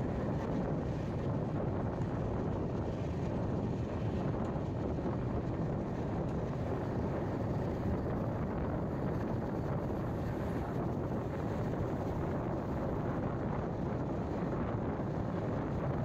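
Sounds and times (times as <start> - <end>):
train rumbling on track: 0.0 - 16.0
wind on microphone: 0.0 - 16.0.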